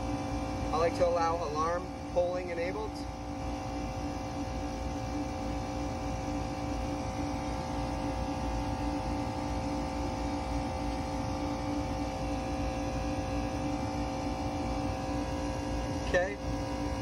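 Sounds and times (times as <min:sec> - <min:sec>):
hvac unit humming: 0:00.0 - 0:17.0.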